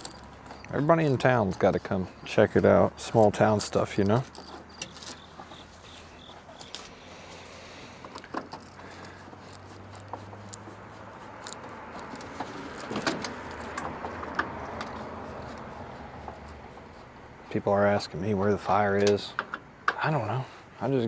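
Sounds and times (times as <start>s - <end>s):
hand tools clicking and rattling: 0.0s - 17.2s.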